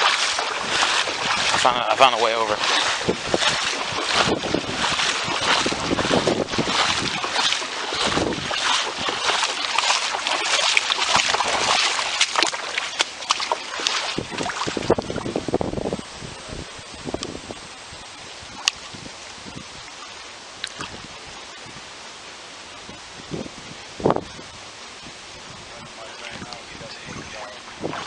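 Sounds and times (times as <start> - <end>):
floodwater rushing and splashing: 0.0 - 28.0.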